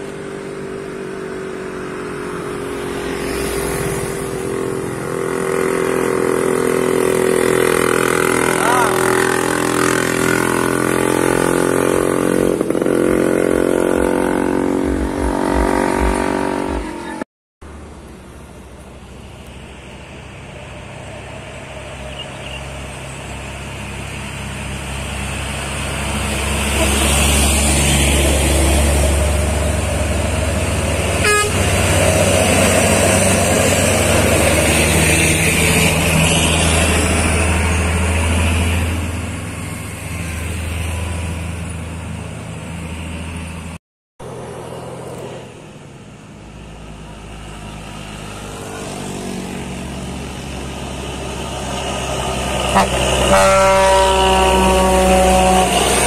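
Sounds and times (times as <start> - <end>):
diesel trucks driving past: 0.0 - 56.0.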